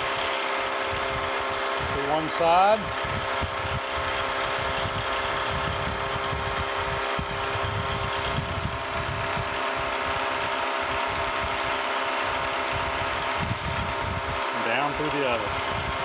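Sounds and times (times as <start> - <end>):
drill boring into metal: 0.0 - 16.0.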